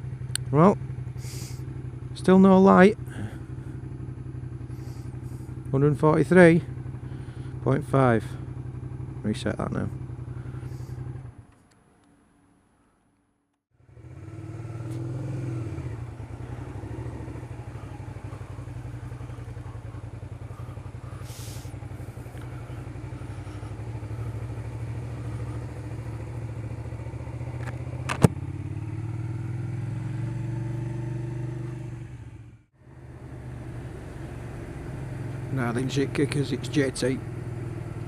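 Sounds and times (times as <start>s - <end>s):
motorcycle engine running: 0.0s - 11.6s, 13.7s - 38.0s.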